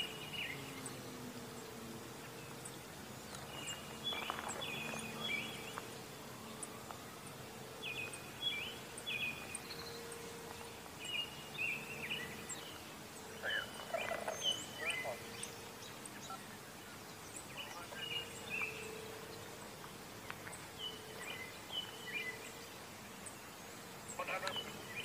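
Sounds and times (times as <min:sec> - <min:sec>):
faint steady hum: 0:00.0 - 0:25.0
songbird chirping: 0:00.0 - 0:25.0.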